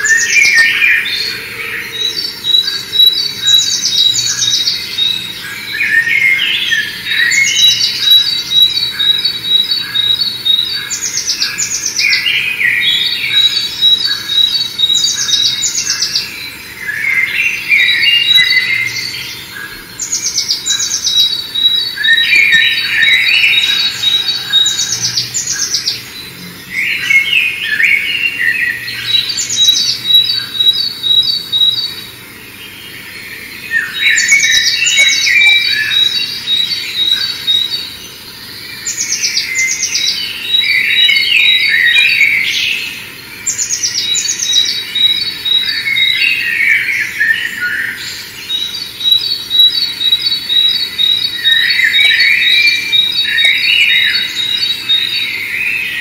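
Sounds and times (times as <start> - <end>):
songbird singing with trill: 0.0 - 56.0.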